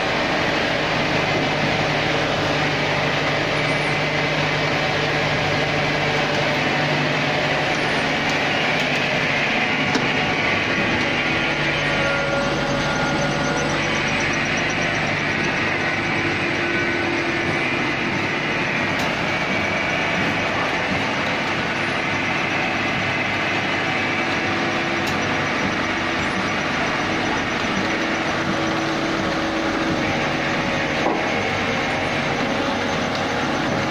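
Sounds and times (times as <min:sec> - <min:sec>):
sugarcane mill crushing: 0:00.0 - 0:33.9.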